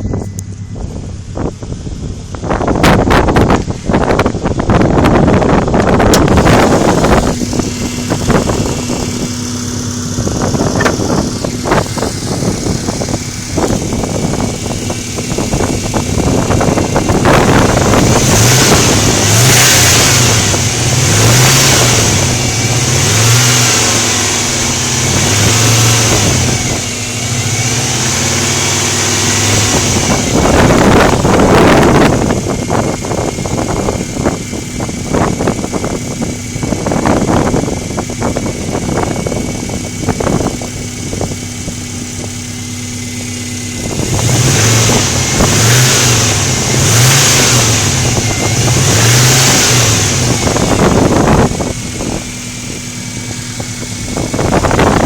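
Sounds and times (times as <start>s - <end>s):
car engine revving: 0.0s - 55.0s
engine knocking: 5.6s - 55.0s.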